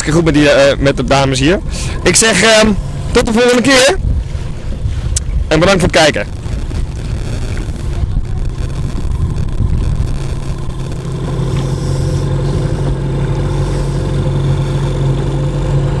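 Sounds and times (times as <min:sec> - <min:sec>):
motorboat engine running: 0:00.0 - 0:16.0
wind and water noise: 0:00.0 - 0:16.0.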